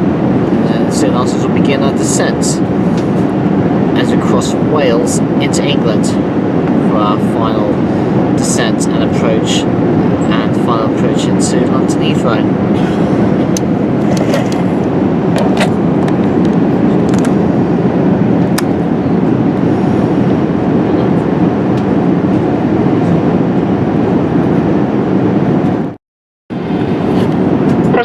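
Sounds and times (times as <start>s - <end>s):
airflow and engine noise in cabin: 0.0s - 28.0s.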